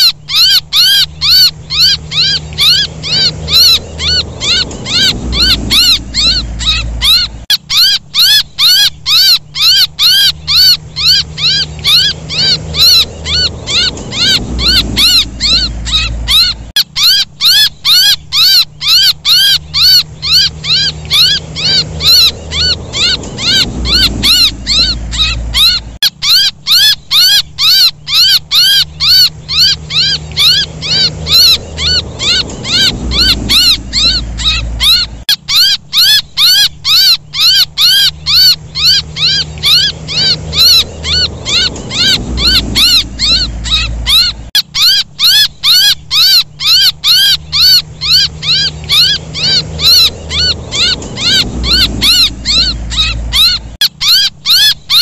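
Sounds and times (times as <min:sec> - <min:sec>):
low hum: 0:00.0 - 0:54.4
baby bird squeaking: 0:00.0 - 0:55.0.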